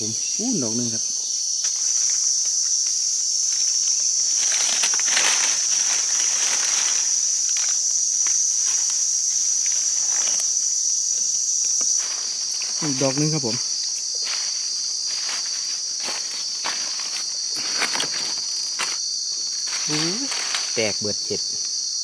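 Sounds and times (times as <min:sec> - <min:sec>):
forest insects chorus: 0:00.0 - 0:22.0
rustling in dry leaves: 0:01.7 - 0:21.4.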